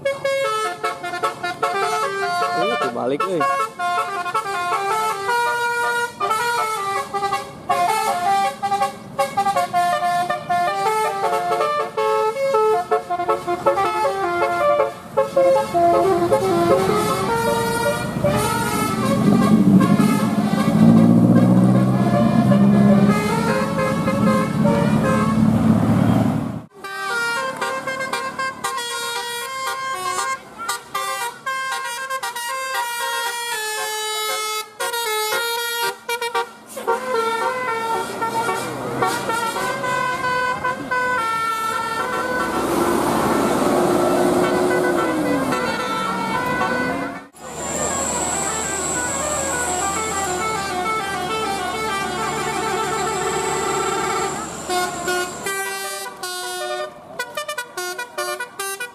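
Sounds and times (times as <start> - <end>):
bus air horn playing tune: 0.0 - 25.7, 26.7 - 58.9.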